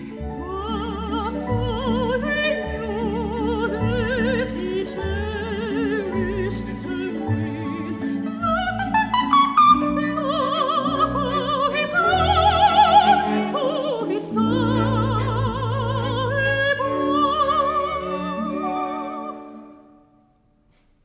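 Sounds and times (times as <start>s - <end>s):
soprano singing: 0.0s - 20.2s.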